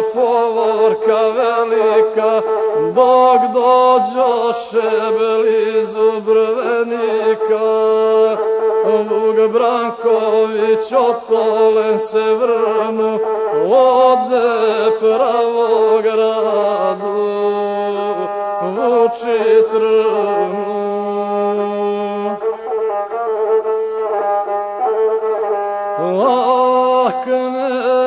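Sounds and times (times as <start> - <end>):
bowed fiddle melody: 0.0 - 28.0.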